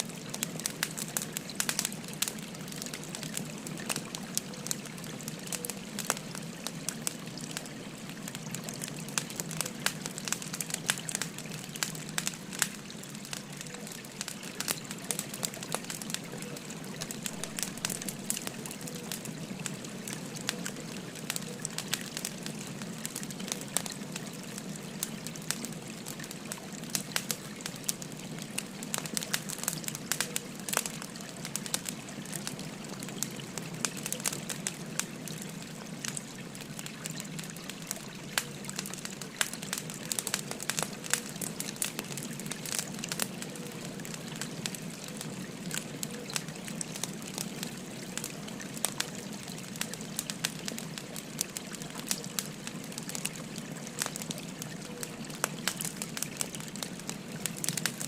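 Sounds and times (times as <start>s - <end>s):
firewood crackling and popping: 0.0s - 58.0s
river gurgling: 0.0s - 58.0s.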